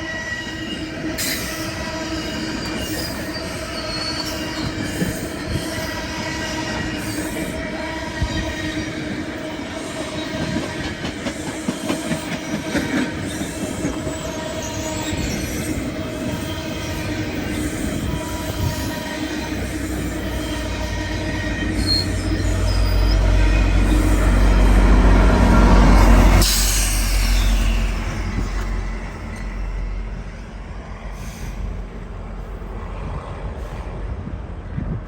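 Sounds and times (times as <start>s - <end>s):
train wheels squealing: 0.0s - 31.9s
train passing with low rumble: 0.0s - 35.0s.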